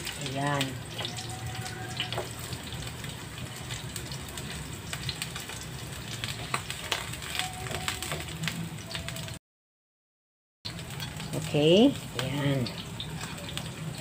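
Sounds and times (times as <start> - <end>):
oil sizzling in a frying pan: 0.0 - 9.4, 10.7 - 14.0.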